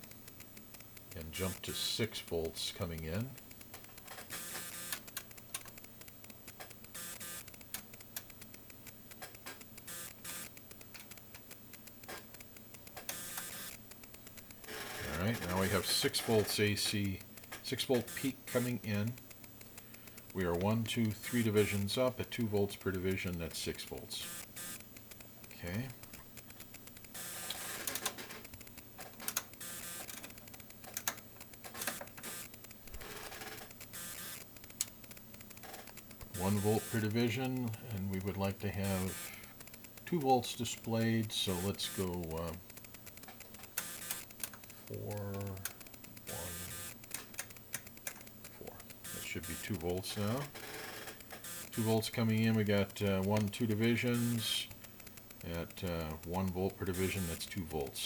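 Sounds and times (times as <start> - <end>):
controls clicking: 0.0 - 58.0
low electrical hum: 0.0 - 58.0.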